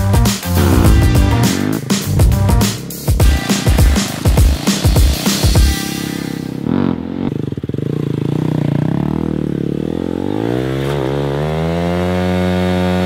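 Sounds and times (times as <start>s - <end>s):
motorcycle engine revving: 0.5s - 13.0s.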